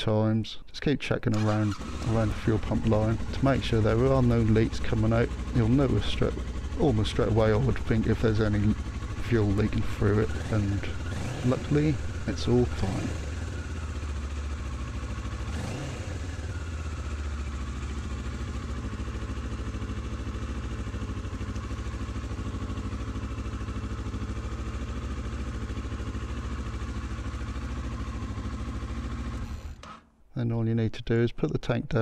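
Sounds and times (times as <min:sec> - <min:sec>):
motorcycle engine idling: 0:01.4 - 0:29.8.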